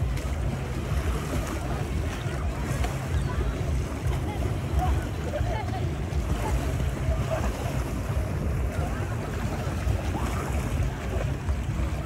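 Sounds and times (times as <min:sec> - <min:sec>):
faint distant voices: 0:00.0 - 0:12.0
small waves lapping: 0:00.0 - 0:12.0.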